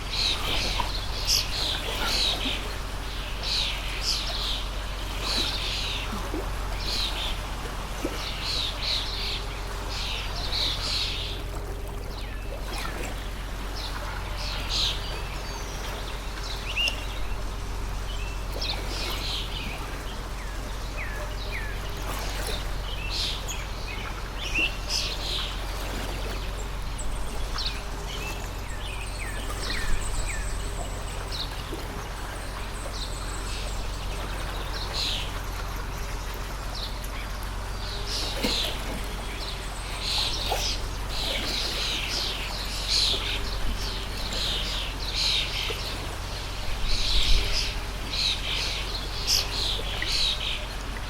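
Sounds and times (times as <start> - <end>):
small birds chirping: 0.0 - 51.0
stream water rushing: 0.0 - 51.0.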